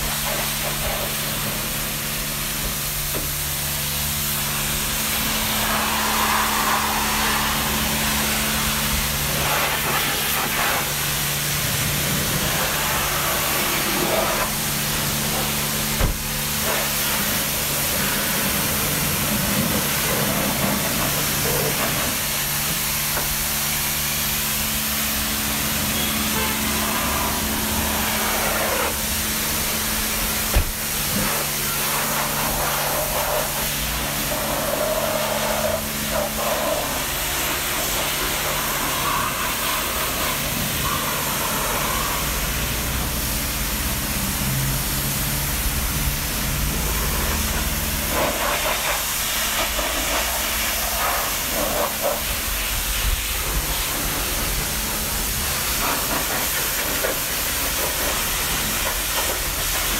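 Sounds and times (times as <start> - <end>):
pressure washer spraying water: 0.0 - 59.9.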